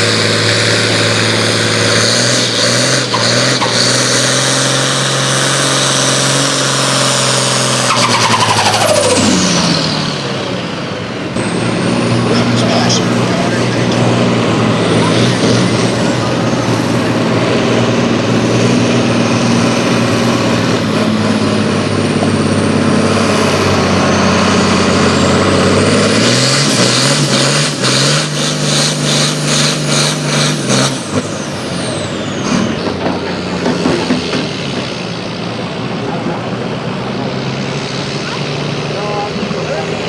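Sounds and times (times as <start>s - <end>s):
engine revving hard: 0.0s - 40.0s.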